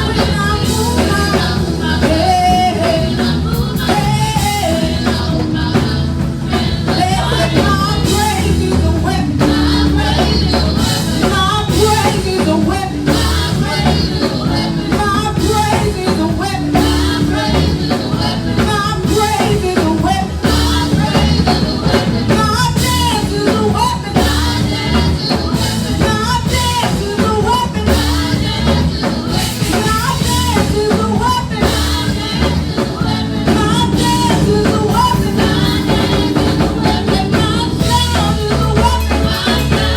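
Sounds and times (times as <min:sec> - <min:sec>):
drum kit: 0:00.0 - 0:39.9
worship music with singing: 0:00.0 - 0:39.9.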